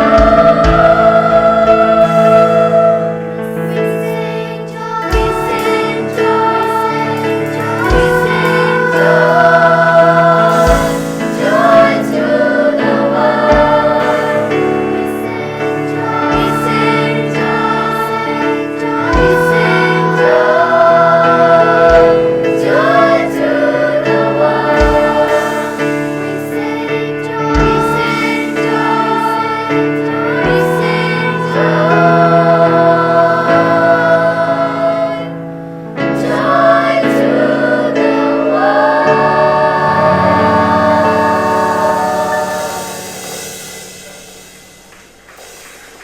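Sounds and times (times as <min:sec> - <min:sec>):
choir singing in harmony: 0:00.0 - 0:45.8.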